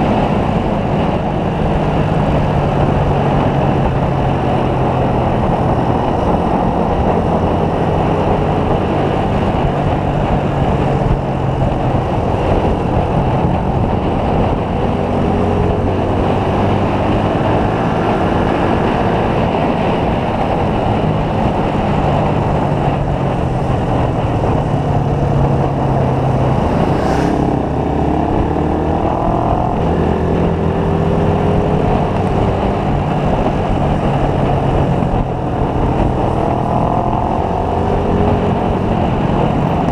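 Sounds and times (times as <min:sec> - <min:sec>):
loud rush of noise: 0:00.0 - 0:39.9
motorcycle engine accelerating: 0:00.0 - 0:39.9.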